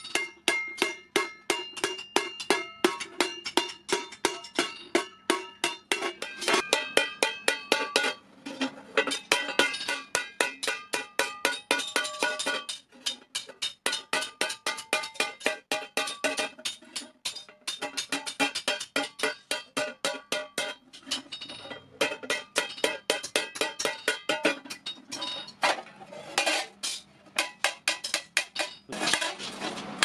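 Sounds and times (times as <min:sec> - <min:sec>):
hammer beating iron plate: 0:00.0 - 0:08.2, 0:09.0 - 0:25.6, 0:26.4 - 0:29.4.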